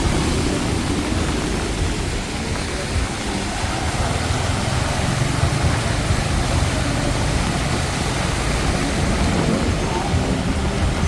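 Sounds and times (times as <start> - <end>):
heavy rain falling: 0.0 - 11.0
street traffic rumble: 0.0 - 11.0.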